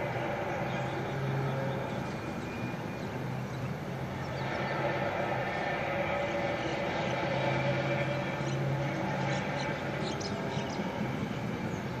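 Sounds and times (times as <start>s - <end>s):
eerie droning creak: 0.0s - 3.2s, 4.0s - 11.6s.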